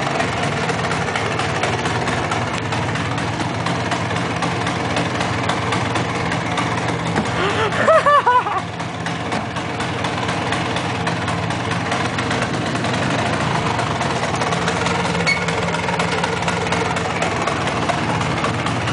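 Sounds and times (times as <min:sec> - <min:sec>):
scooter engine idling: 0:00.0 - 0:18.9.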